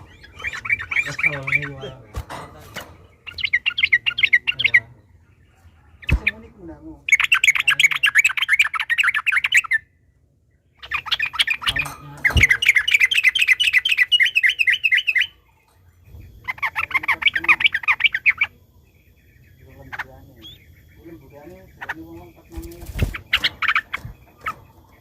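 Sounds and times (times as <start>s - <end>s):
bulbul rolling chatter: 0.0s - 9.9s, 10.8s - 25.0s.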